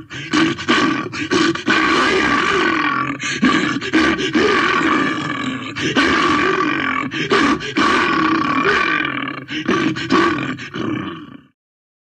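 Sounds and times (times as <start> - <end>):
creature growls and roars: 0.0 - 11.6.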